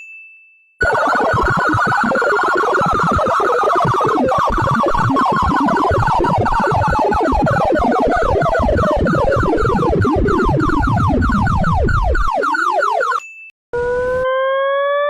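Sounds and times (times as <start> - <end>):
rapid falling electronic sweeps: 0.8 - 13.0
high electronic tone: 0.8 - 13.2, 13.8 - 15.0.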